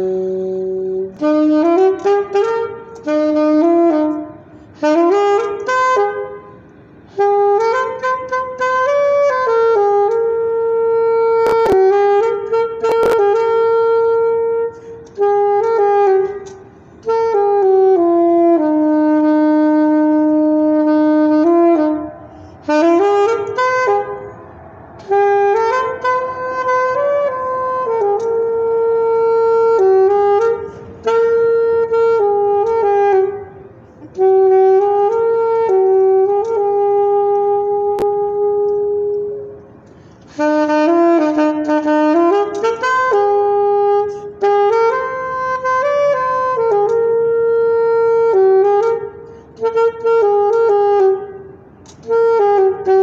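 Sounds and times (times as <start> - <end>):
solo saxophone melody: 0.0 - 53.0.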